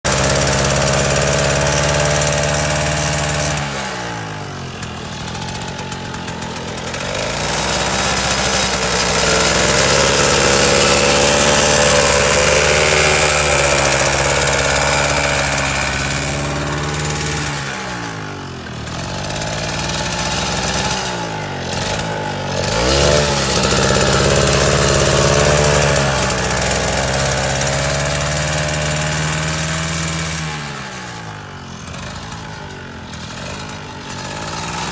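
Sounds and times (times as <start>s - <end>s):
small tractor engine running: 0.0s - 34.9s.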